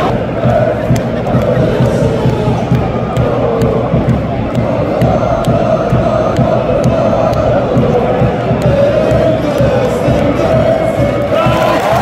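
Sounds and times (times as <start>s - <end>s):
stadium crowd chanting and singing: 0.0s - 12.0s.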